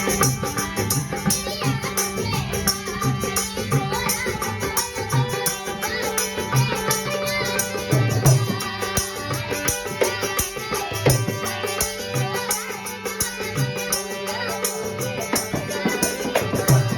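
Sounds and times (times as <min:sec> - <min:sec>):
fast rattling percussion: 0:00.0 - 0:16.9
hand drum beat: 0:00.0 - 0:16.9.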